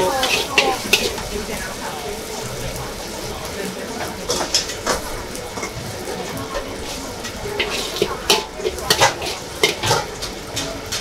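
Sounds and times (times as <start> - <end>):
frying sizzle: 0.0 - 11.0
metal utensils clinking on pan: 0.0 - 11.0.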